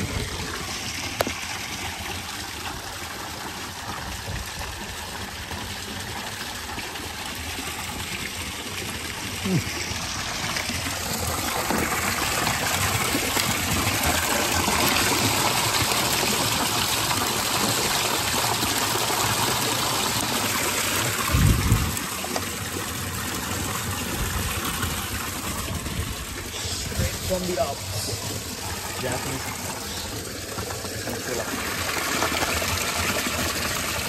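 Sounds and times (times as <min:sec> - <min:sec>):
water running over stones: 0:00.0 - 0:34.0.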